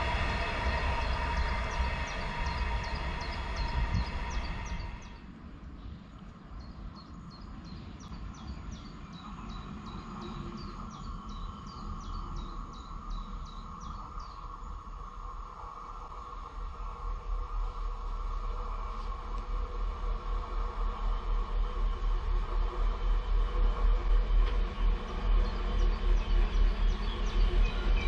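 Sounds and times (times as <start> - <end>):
approaching train hum: 0.0 - 28.0
train rumble: 0.0 - 28.0.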